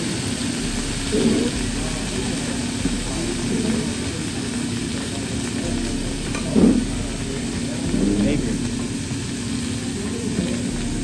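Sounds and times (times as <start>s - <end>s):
food sizzling on a griddle: 0.0s - 11.0s
ventilation fan rushing: 0.0s - 11.0s.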